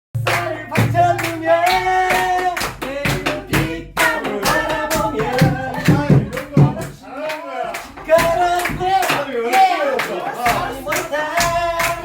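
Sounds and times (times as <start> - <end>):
hands clapping a beat: 0.2 - 12.0
voices singing held notes: 0.2 - 12.0.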